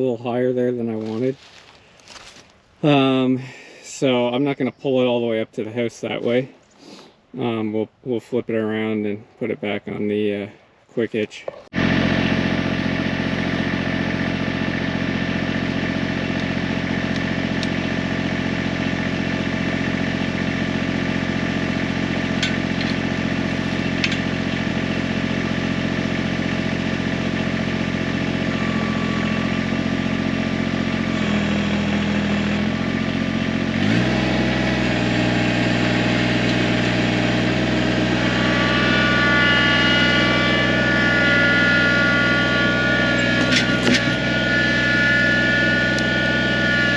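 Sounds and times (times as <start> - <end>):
tractor diesel engine running: 0.0 - 10.5, 11.6 - 46.9.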